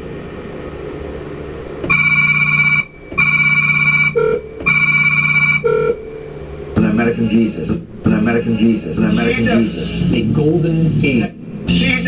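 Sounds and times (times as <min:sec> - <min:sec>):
low hum: 0:00.0 - 0:12.0
electronic tones: 0:01.9 - 0:12.0.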